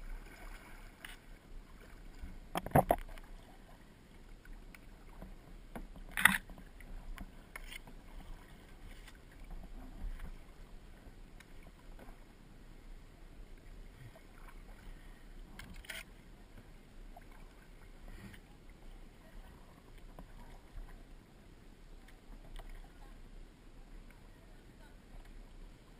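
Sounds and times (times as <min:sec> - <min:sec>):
faint water noise: 0:00.0 - 0:25.9.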